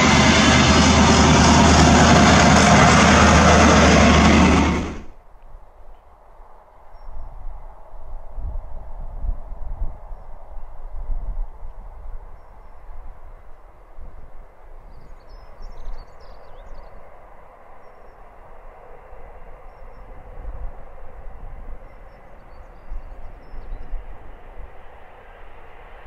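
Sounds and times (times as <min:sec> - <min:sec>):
distant passenger train rumble: 0:00.0 - 0:26.0.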